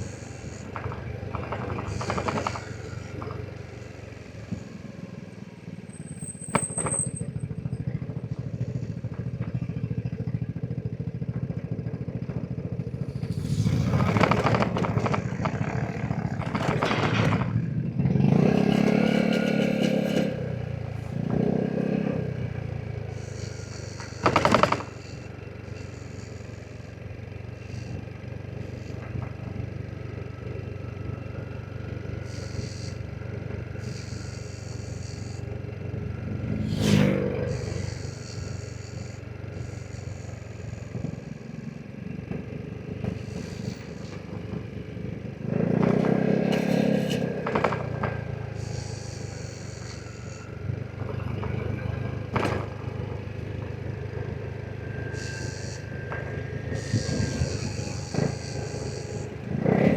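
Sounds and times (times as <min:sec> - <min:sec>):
road noise: 0:00.0 - 0:59.9
scooter engine running: 0:00.0 - 0:59.9.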